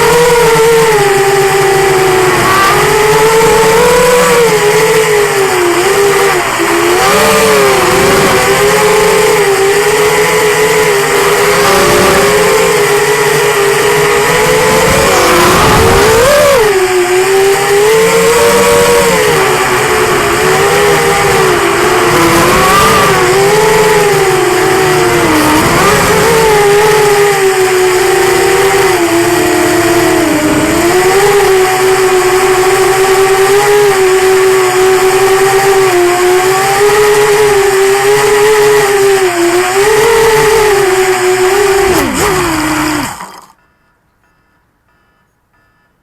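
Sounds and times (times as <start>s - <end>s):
quadcopter motors whining: 0.0s - 43.6s.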